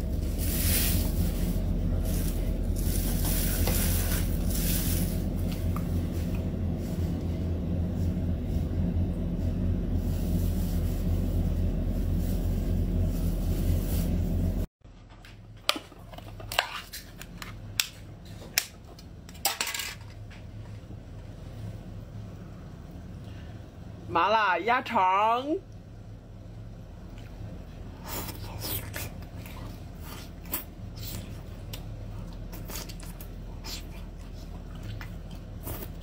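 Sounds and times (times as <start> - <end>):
low hum with hiss: 0.0 - 36.0.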